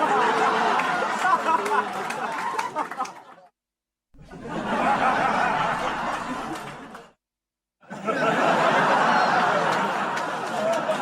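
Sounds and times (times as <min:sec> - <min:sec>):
studio audience laughter: 0:00.0 - 0:03.5, 0:04.2 - 0:07.2, 0:07.8 - 0:11.0.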